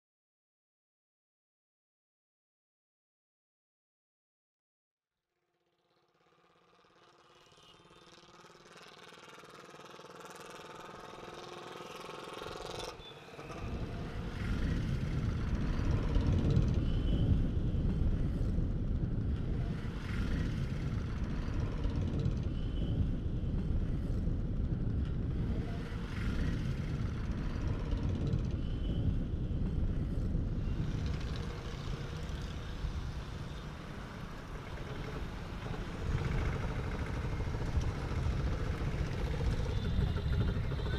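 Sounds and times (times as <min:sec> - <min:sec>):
road traffic rumble: 0:06.0 - 0:40.9
motorcycles passing: 0:06.2 - 0:40.9.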